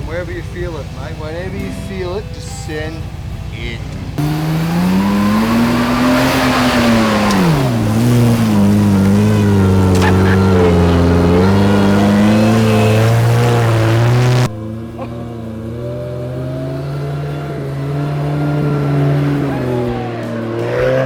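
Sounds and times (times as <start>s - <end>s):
engine revving hard: 3.2s - 21.0s.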